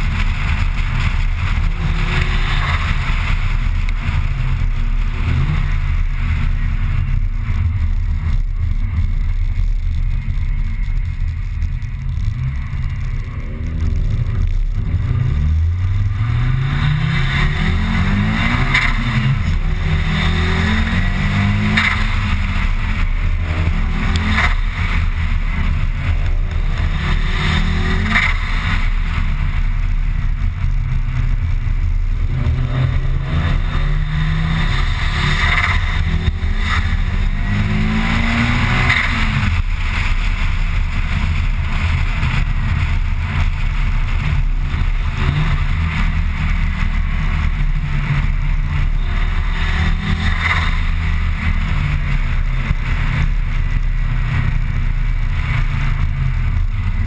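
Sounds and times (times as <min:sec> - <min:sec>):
car engine running: 0:00.0 - 0:57.0
road rumble: 0:00.0 - 0:57.0.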